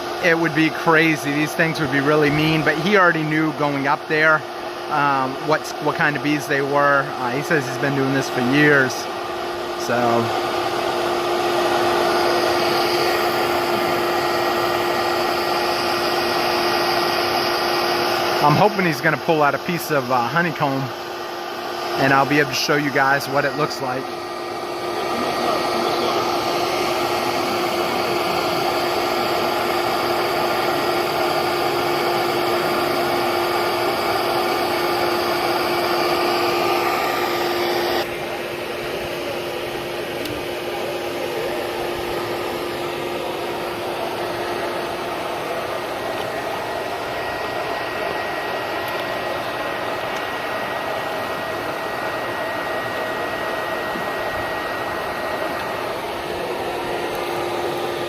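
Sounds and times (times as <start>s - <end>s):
vacuum motor whining hum: 0.0s - 58.0s.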